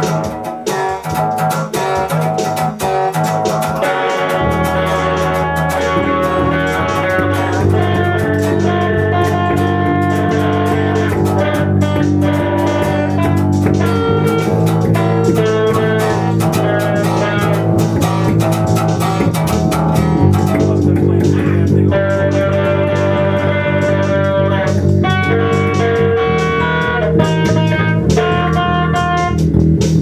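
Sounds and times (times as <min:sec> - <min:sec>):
bass guitar: 0:00.0 - 0:30.0
guitar music: 0:00.0 - 0:30.0.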